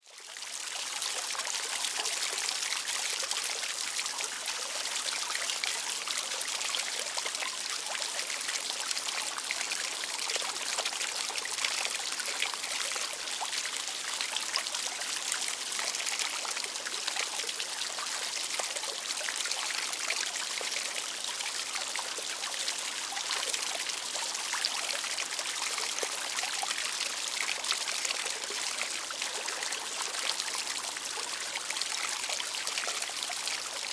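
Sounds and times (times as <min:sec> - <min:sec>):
fountain water splashing and trickling: 0:00.0 - 0:33.9.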